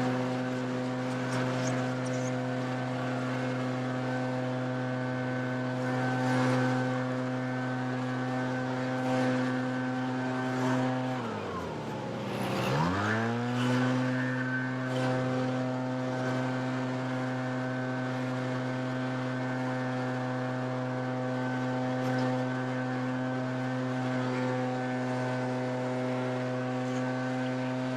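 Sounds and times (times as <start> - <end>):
leaf blower engine revving: 0.0 - 27.9.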